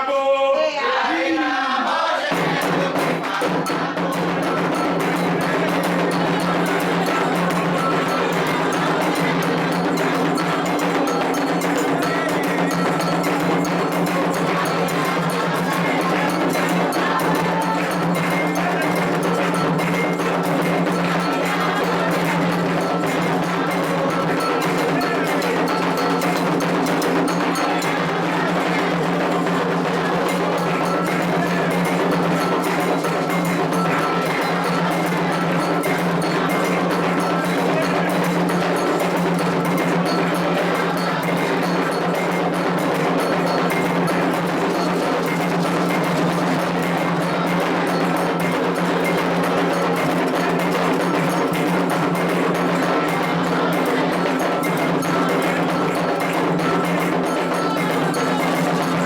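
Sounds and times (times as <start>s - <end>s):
hand drums playing: 2.3s - 59.0s
struck metal bell: 4.1s - 59.0s.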